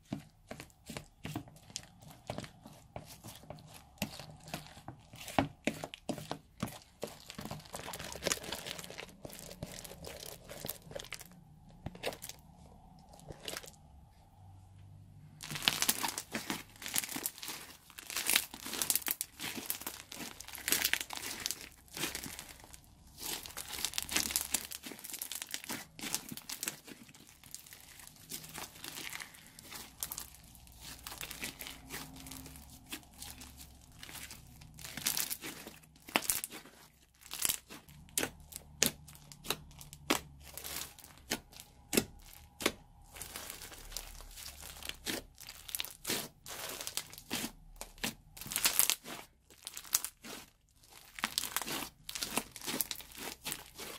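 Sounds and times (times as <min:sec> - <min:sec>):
slime squishing and popping: 0:00.0 - 0:13.8, 0:15.4 - 0:53.9.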